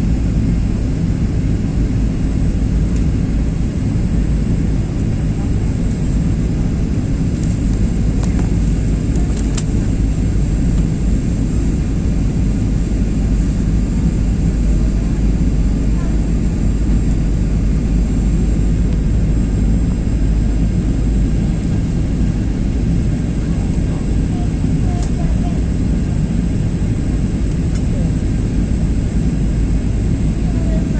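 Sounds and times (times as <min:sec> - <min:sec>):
airplane rumble and whine: 0:00.0 - 0:30.9.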